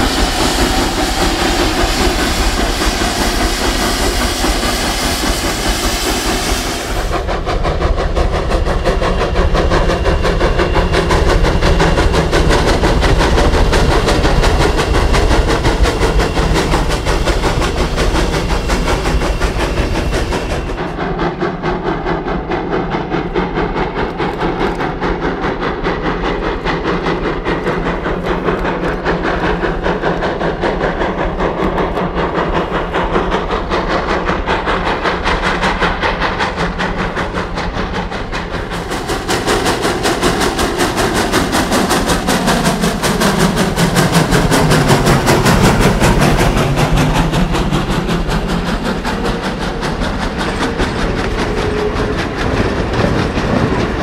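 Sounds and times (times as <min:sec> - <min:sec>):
steam locomotive chuffing: 0:00.0 - 0:54.0
train rumble: 0:00.0 - 0:54.0.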